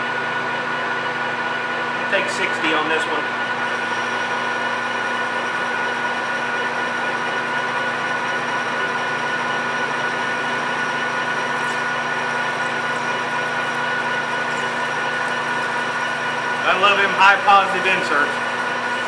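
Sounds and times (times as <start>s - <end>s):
lathe running: 0.0s - 19.0s.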